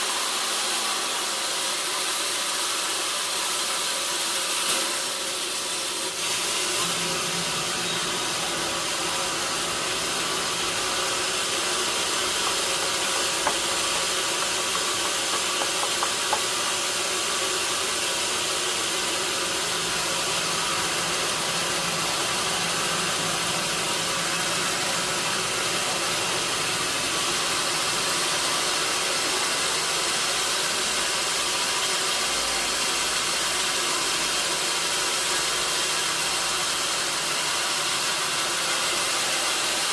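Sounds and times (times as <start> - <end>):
log saw engine humming and hissing: 0.0 - 39.9.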